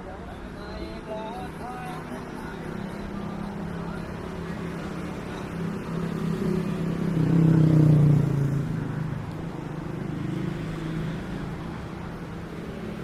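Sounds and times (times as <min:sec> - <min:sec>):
steady engine hum: 0:00.0 - 0:13.0
vehicle engine passing by: 0:01.8 - 0:13.0.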